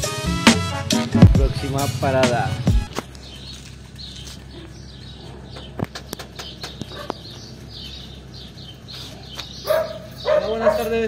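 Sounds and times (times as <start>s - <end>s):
small birds chirping: 2.1s - 11.0s.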